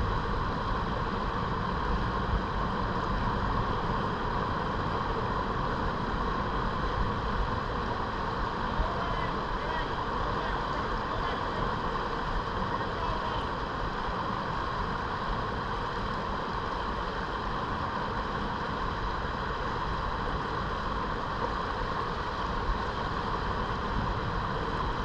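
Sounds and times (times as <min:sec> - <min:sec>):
river water rushing over riffle: 0:00.0 - 0:25.0.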